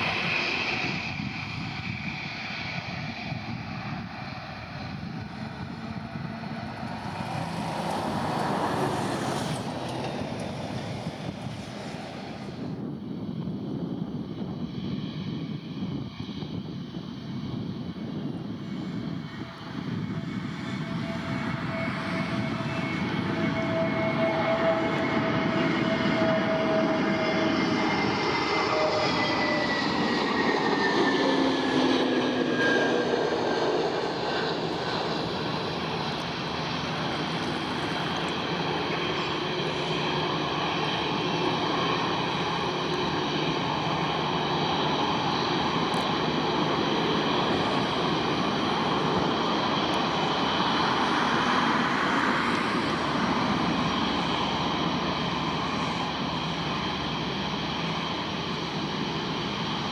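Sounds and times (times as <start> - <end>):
jet engine rumble: 0.0 - 59.9
jet engines whining: 0.0 - 59.9.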